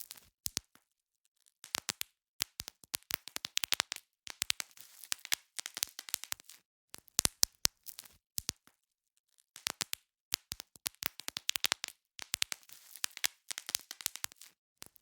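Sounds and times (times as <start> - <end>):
bubble wrap popping: 1.6 - 8.7, 9.6 - 15.0.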